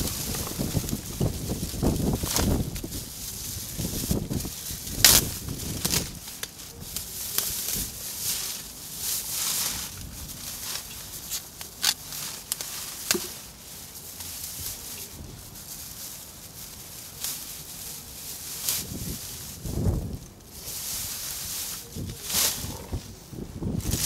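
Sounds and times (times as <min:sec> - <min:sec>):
plastic bags crinkling: 0:00.0 - 0:22.2.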